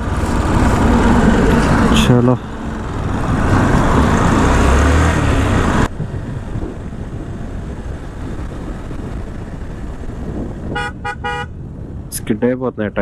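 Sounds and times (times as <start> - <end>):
motorcycle engine: 0.0 - 12.1
traffic and road noise: 0.0 - 13.0
wind noise on microphone: 0.0 - 13.0.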